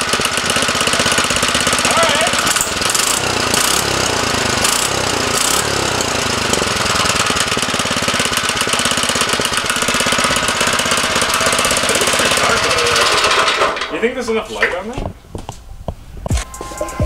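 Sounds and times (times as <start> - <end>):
small engine running: 0.0 - 13.8.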